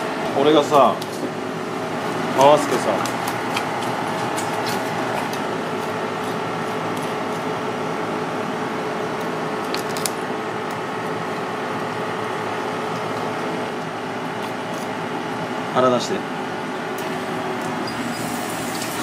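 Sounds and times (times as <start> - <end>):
kitchen ventilation hum: 0.0 - 19.0.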